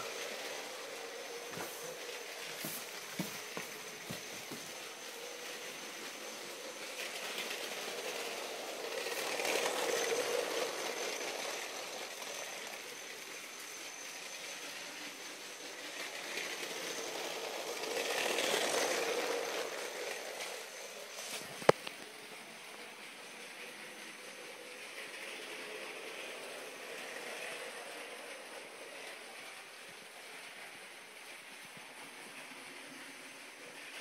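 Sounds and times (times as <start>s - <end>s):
toy train whining on track: 0.0s - 34.0s.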